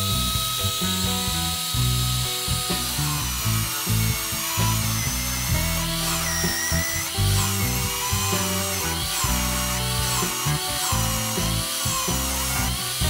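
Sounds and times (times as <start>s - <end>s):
background music: 0.0s - 13.0s
drill press boring into wood: 0.0s - 13.0s.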